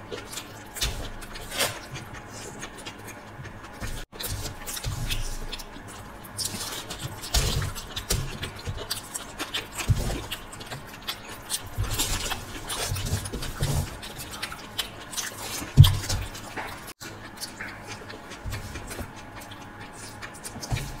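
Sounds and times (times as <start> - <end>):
wet chewing: 0.0 - 21.0.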